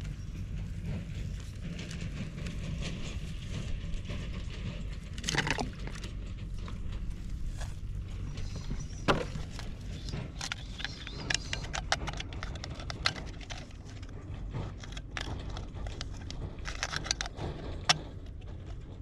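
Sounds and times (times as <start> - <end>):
low rumble: 0.0 - 19.0
sharp clicks and rattles: 0.0 - 19.0.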